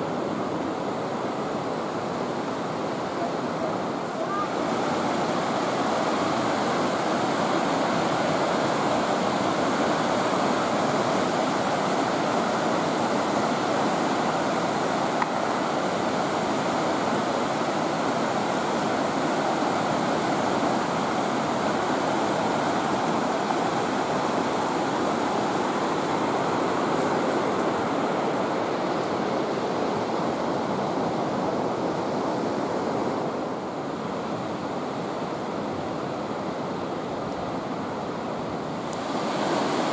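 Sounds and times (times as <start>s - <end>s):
white water rushing: 0.0s - 39.9s.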